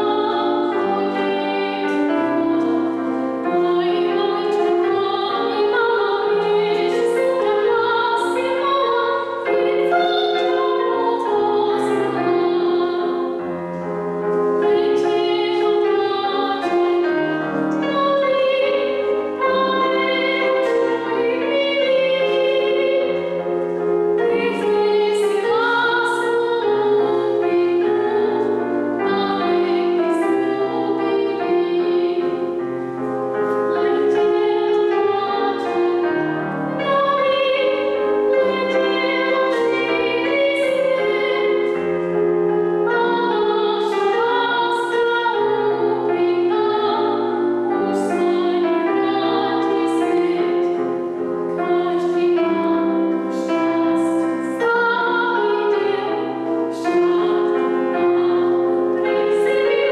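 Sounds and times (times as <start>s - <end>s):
woman singing: 0.0s - 13.8s, 14.6s - 32.6s, 33.4s - 59.9s
digital piano: 0.0s - 59.9s.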